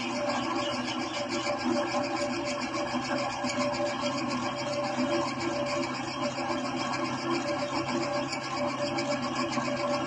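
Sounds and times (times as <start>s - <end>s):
milking machine pulsing hum: 0.0s - 10.0s.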